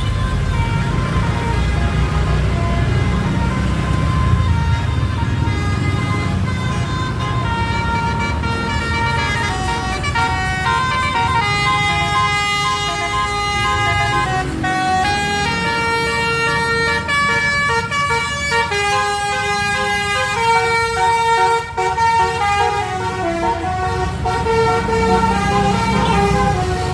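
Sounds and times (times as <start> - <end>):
bus multi-tone horn tune: 0.0 - 26.9
low bus engine rumble: 0.0 - 26.9.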